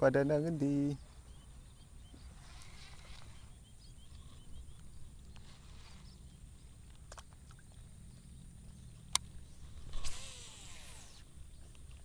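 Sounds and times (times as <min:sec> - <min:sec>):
low wind rumble: 0:00.0 - 0:12.0.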